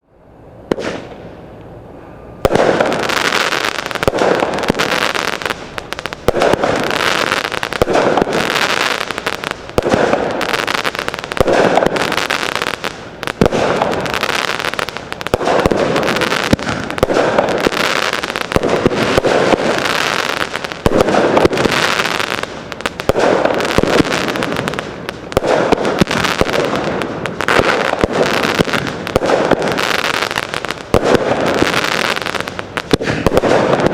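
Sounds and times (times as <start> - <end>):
fireworks popping and crackling: 0.7 - 1.2, 2.4 - 33.9.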